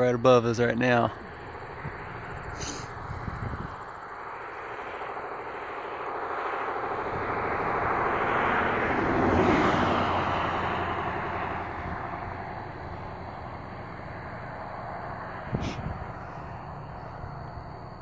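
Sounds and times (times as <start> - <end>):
aircraft engine drone: 0.0 - 18.0.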